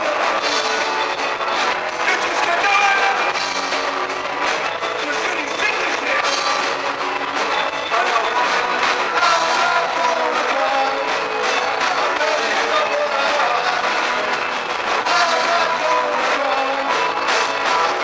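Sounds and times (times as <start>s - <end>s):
drums: 0.0s - 18.0s
electric bass: 0.0s - 18.0s
electric guitar: 0.0s - 18.0s.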